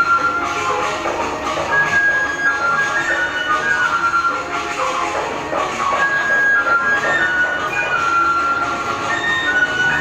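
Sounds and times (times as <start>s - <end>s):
music with high held melody: 0.0s - 10.0s.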